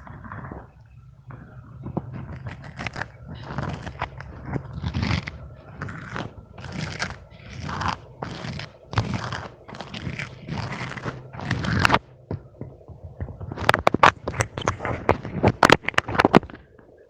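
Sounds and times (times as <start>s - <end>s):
plastic rustling and crinkling: 0.0s - 17.0s.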